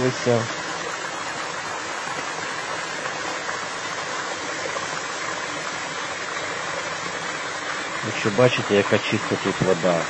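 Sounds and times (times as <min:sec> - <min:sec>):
stream water running: 0:00.0 - 0:10.0.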